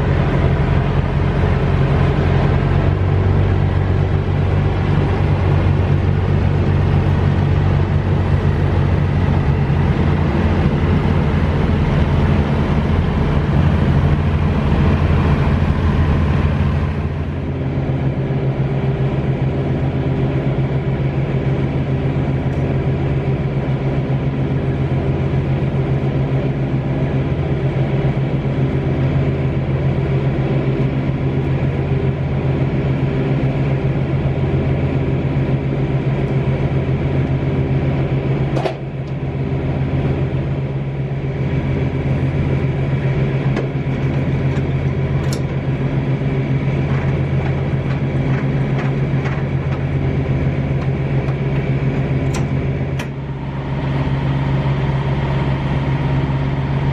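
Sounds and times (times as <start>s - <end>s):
diesel engine idling: 0.0s - 56.9s.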